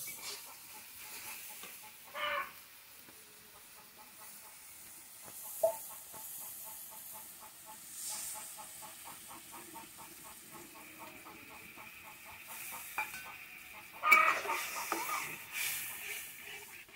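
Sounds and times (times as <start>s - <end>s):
curry sizzling in a wok: 0.0s - 16.9s.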